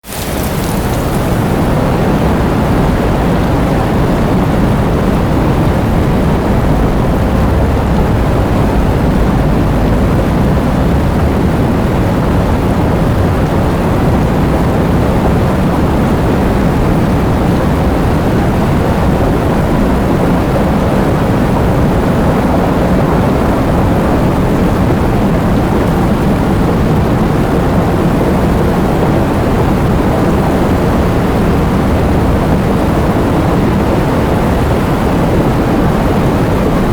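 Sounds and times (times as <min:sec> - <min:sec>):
heavy rain in strong wind: 0:00.0 - 0:36.9.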